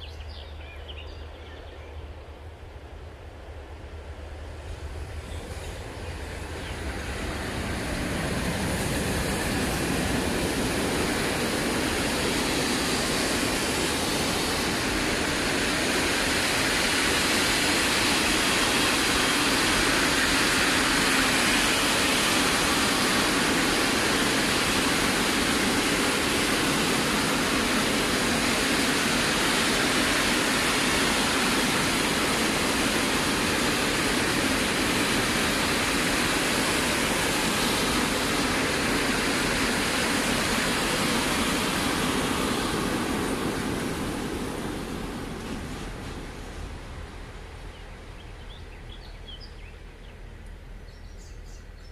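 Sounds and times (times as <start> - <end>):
freight train rumbling past: 0.0 - 51.9.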